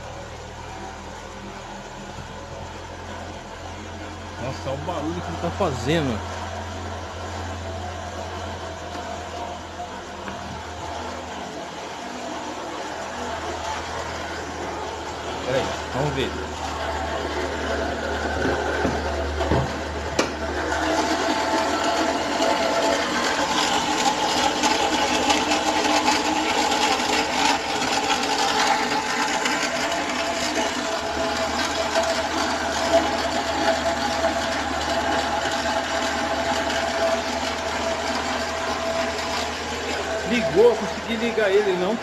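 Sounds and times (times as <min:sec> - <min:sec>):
engine running with clatter: 0:00.0 - 0:42.0.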